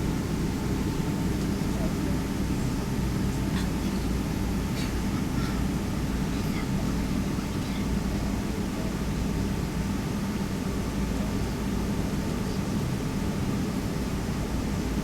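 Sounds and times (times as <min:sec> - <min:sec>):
airliner cabin rumble with hiss: 0:00.0 - 0:15.0.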